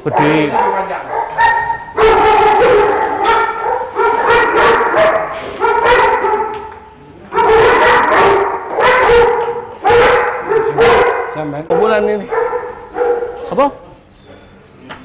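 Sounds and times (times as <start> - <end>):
dogs barking and yelping: 0.0 - 14.6.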